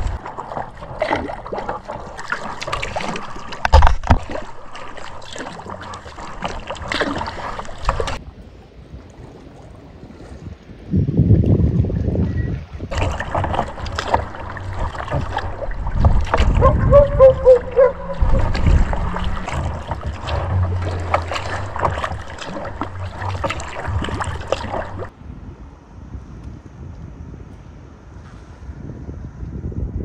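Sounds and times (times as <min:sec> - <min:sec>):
wind rumble on microphone: 0:00.0 - 0:04.4, 0:05.6 - 0:30.0
water splashing around kayak: 0:00.0 - 0:25.2.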